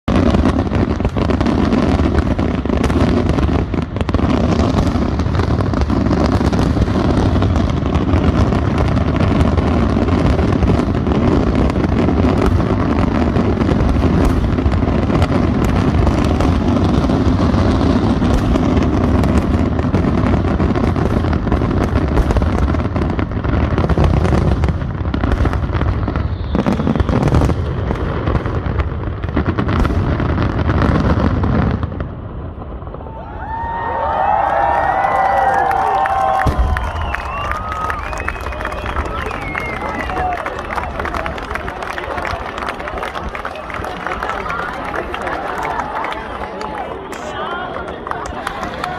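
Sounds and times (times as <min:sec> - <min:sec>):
fireworks bursts and crackles: 0:00.0 - 0:48.9.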